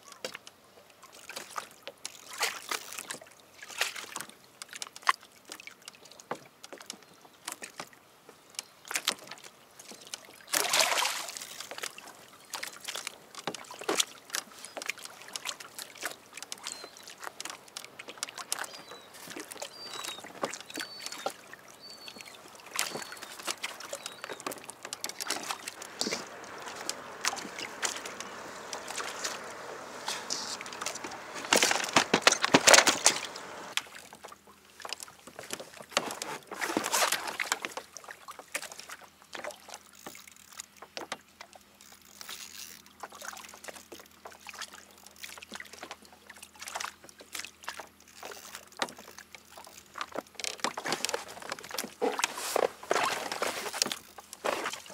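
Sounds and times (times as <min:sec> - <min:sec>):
water lapping against kayak hull: 0:08.9 - 0:54.9
water splashes: 0:08.9 - 0:54.9.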